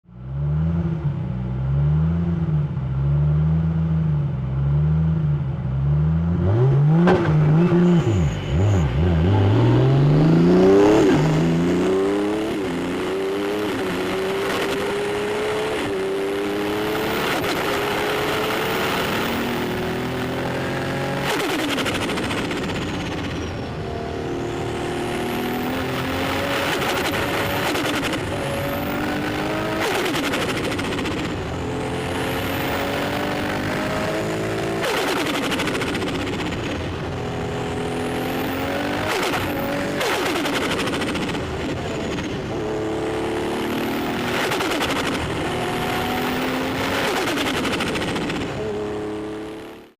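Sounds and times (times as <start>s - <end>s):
race car engine accelerating: 5.9s - 49.9s.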